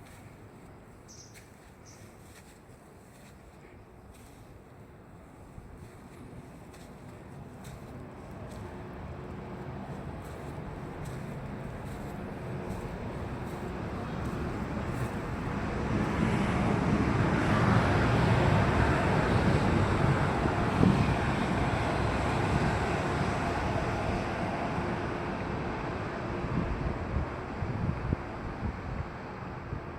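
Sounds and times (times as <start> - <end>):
train passing: 4.2 - 29.9.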